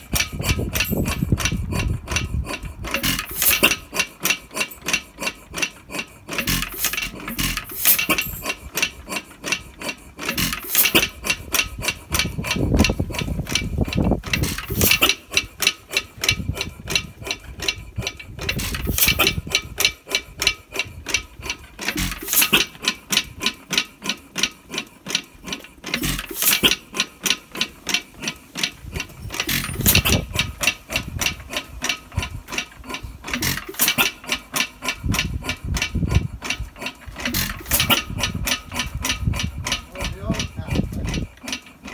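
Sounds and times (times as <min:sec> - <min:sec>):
stationary engine clattering: 0:00.0 - 0:41.9.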